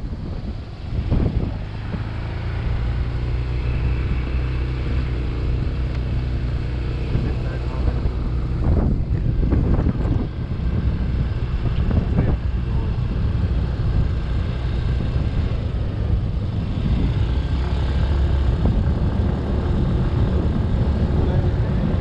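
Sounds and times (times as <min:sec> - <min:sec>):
motorbike engine running: 0:00.0 - 0:22.0
wind on microphone: 0:00.0 - 0:22.0.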